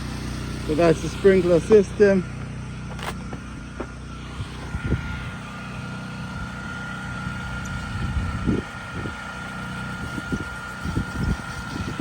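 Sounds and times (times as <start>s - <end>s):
constant high whine: 0.0s - 12.0s
engine running: 0.0s - 12.0s.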